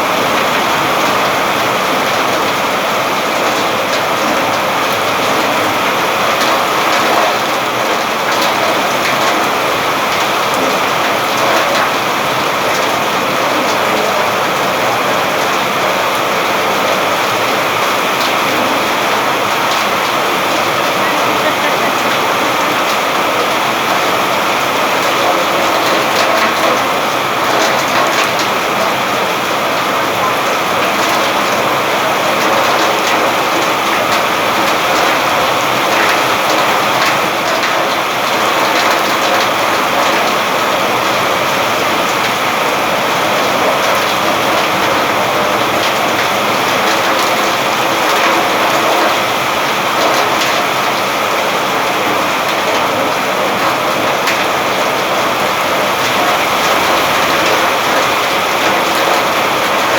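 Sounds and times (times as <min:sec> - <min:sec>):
heavy rain drumming: 0:00.0 - 0:59.9.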